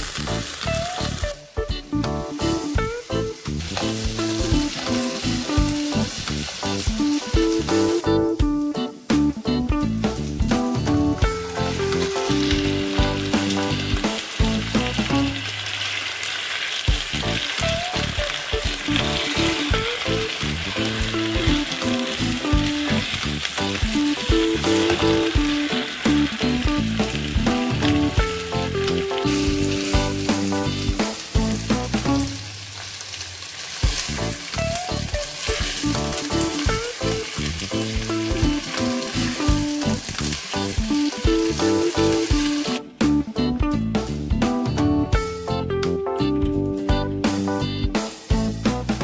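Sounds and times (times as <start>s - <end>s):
background music: 0.0s - 15.7s, 16.9s - 32.5s, 33.9s - 49.0s
chicken sizzling in oil: 0.0s - 43.2s.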